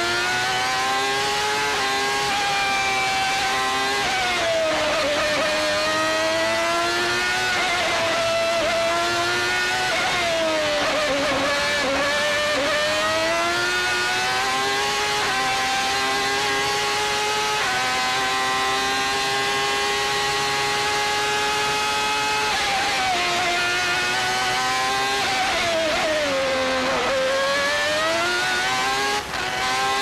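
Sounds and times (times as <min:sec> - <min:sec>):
racing car engine at high revs: 0:00.0 - 0:30.0.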